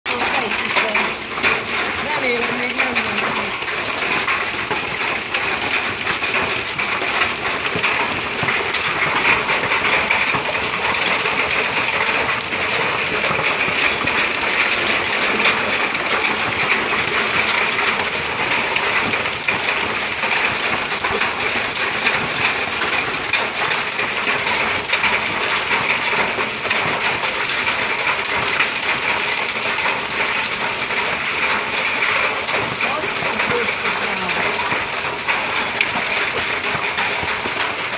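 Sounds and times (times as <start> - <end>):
hail on gravel: 0.0 - 37.9
hail on metal roof: 0.1 - 37.9.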